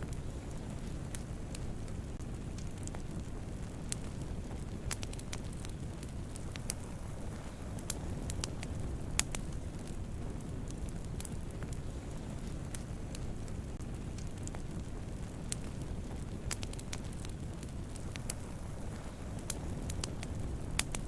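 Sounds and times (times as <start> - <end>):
campfire crackling: 0.0 - 21.0
wood fire popping: 0.0 - 21.0.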